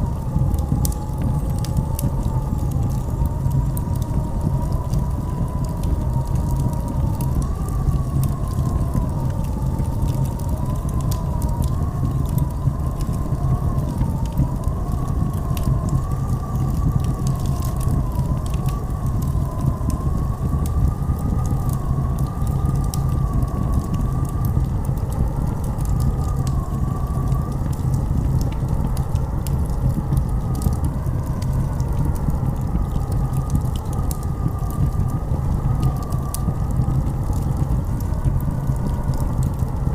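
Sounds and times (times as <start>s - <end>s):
howling blizzard wind: 0.0s - 39.9s.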